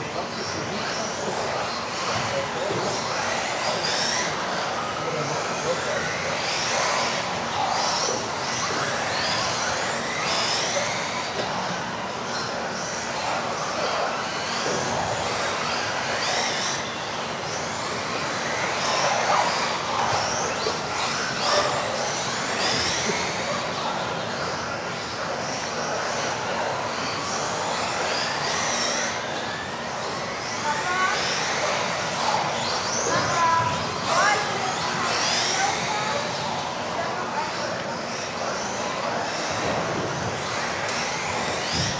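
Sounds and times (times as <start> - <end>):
rc car motors whining: 0.0 - 41.9.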